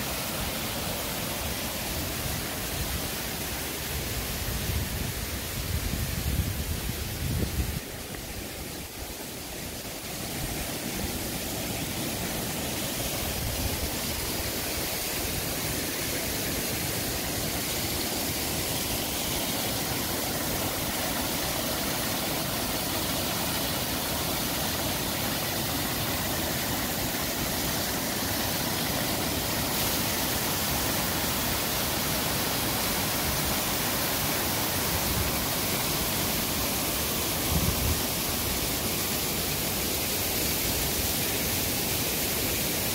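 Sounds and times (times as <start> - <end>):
waterfall pouring over rocks: 0.0 - 42.9.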